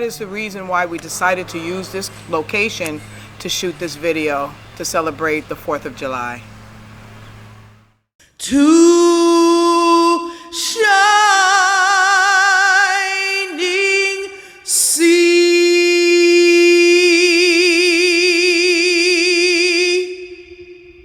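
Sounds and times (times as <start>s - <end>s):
woman singing a cappella: 0.0s - 6.4s, 8.4s - 21.0s.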